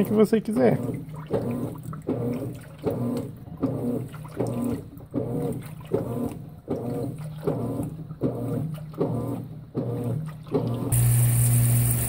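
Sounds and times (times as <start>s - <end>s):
water sloshing in drum: 0.0s - 11.0s
washing machine motor whirring: 0.0s - 12.0s.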